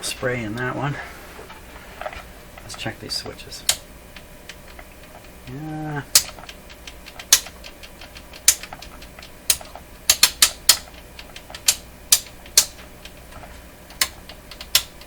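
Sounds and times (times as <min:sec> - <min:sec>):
switches clicking: 0:02.6 - 0:15.0.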